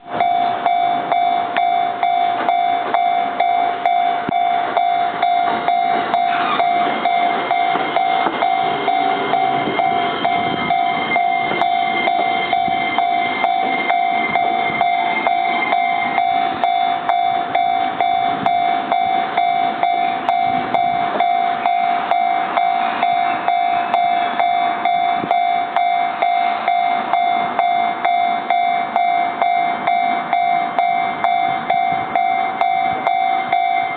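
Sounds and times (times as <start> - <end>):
electric train running slowly: 0.0 - 33.9
level-crossing bell ringing: 0.0 - 33.9.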